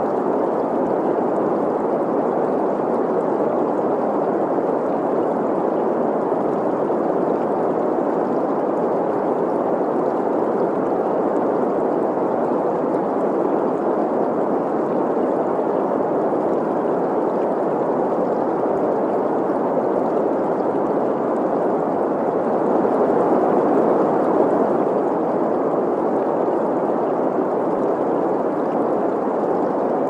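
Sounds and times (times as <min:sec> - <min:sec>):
running water: 0:00.0 - 0:30.0
steady green noise hiss: 0:00.0 - 0:30.0.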